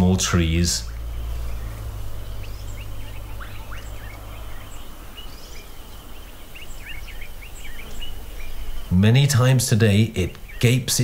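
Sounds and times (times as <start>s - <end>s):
low rumble: 0.0s - 9.0s
wild birds chirping: 0.0s - 11.0s.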